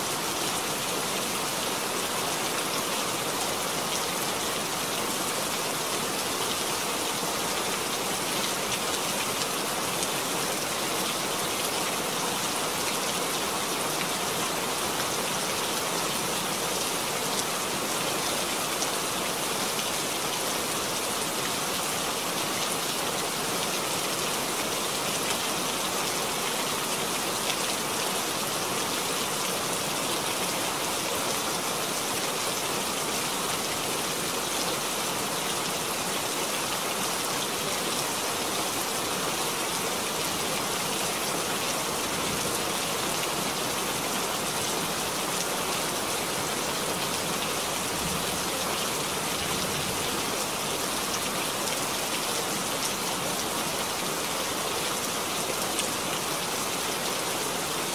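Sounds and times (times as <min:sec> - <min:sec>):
rain on puddle and leaves: 0:00.0 - 0:57.9.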